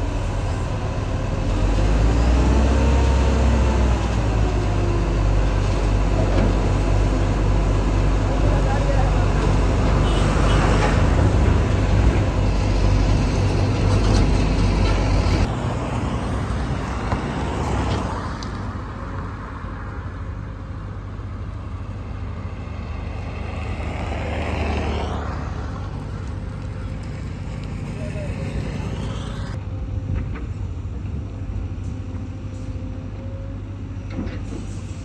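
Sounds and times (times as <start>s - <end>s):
road traffic passing: 0.0s - 35.0s.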